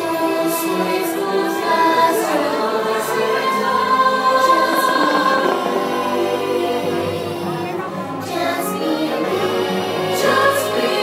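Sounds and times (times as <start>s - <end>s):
music with choir-like singing: 0.0s - 11.0s.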